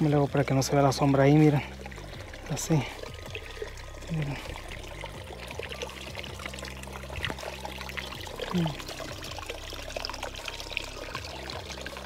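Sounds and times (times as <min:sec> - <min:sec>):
creek trickling over rocks: 0:00.0 - 0:12.0.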